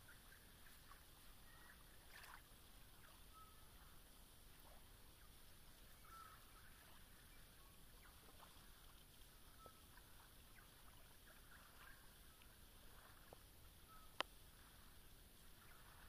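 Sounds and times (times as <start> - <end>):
faint chirps: 0.0 - 16.0
ripples lapping at water's edge: 0.2 - 16.0.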